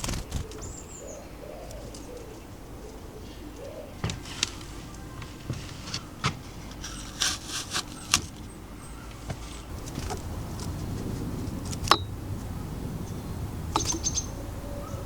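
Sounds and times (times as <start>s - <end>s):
birds tapping at feeder: 0.0s - 15.0s
city traffic rumble: 0.0s - 15.0s.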